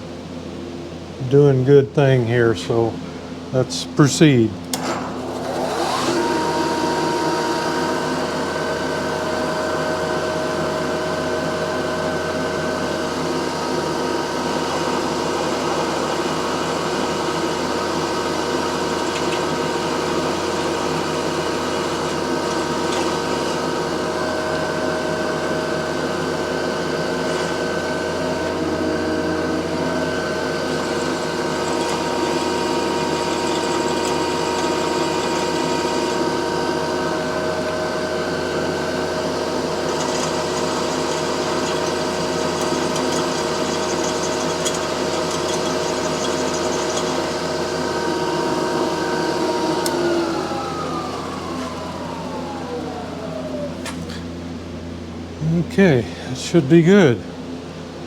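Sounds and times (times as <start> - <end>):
power drill drilling under load: 4.7 - 53.6.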